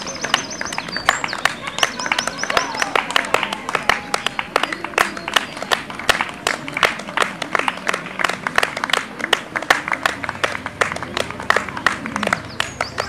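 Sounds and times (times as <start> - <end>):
people clapping: 0.0 - 13.0.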